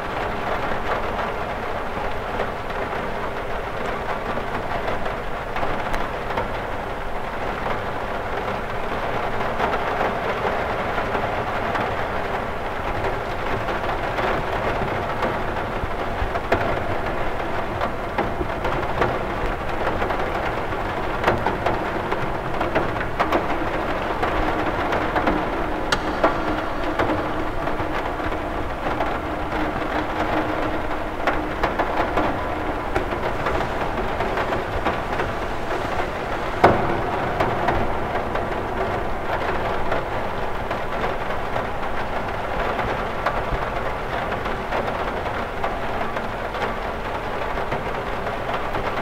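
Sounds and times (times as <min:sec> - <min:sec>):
rain hissing: 0:00.0 - 0:49.0
raindrops ticking on glass: 0:00.1 - 0:49.0.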